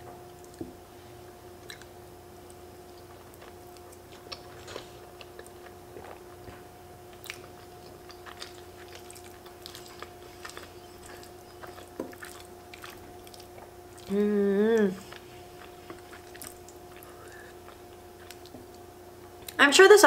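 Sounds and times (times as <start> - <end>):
mouth chewing with wet clicks: 1.6 - 14.2, 14.8 - 19.6.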